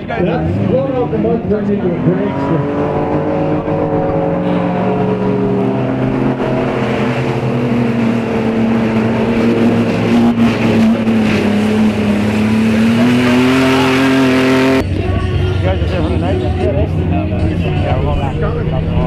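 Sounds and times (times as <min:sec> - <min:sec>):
truck engine revving loud: 0:00.0 - 0:19.0.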